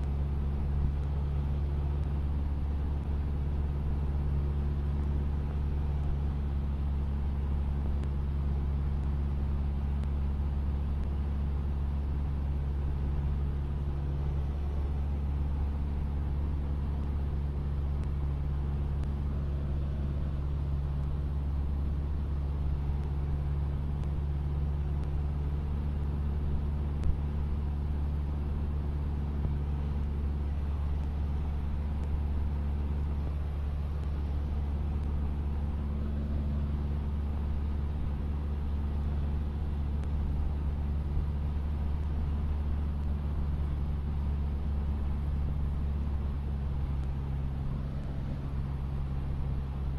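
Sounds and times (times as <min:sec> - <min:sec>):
propeller aircraft engine drone: 0:00.0 - 0:49.9.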